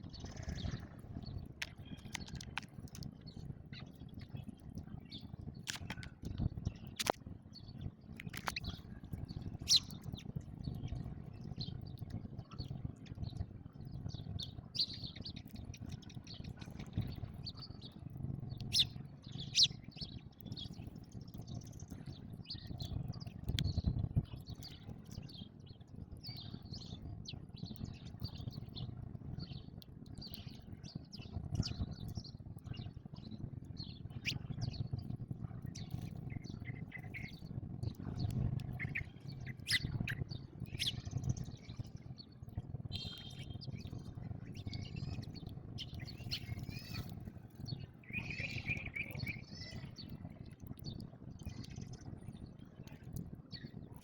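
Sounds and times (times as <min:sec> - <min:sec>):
low background rumble: 0:00.0 - 0:54.0
sparrows chirping: 0:00.0 - 0:54.0.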